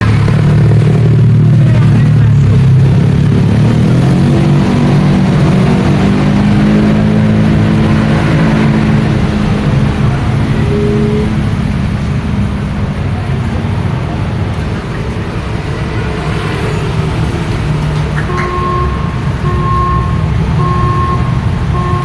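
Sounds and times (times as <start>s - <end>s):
road traffic noise: 0.0s - 22.0s
vehicle engine running close by: 0.0s - 22.0s.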